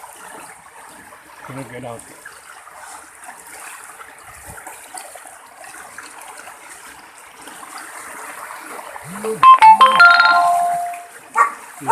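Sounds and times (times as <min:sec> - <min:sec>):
floodwater rushing: 0:00.0 - 0:11.9.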